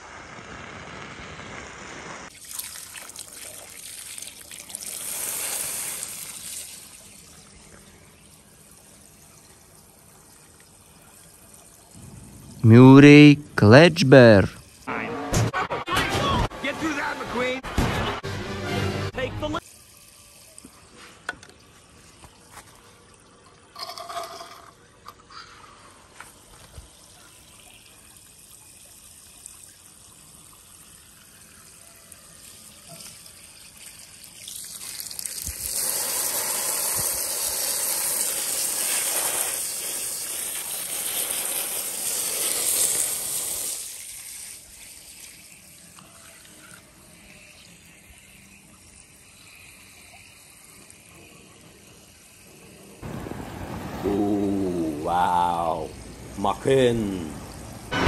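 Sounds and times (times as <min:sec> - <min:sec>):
running water: 0:02.3 - 0:14.9, 0:19.6 - 0:58.0.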